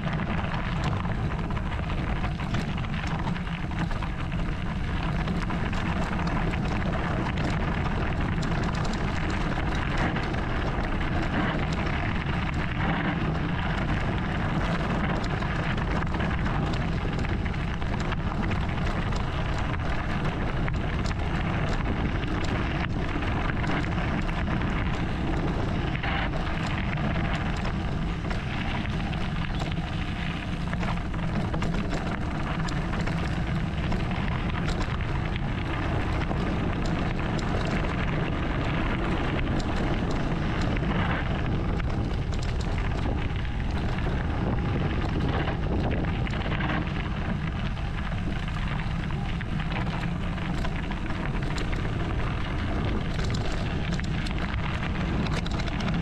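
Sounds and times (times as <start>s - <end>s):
bike tyres crunching over stones: 0.0s - 56.0s
wind on microphone: 0.0s - 56.0s.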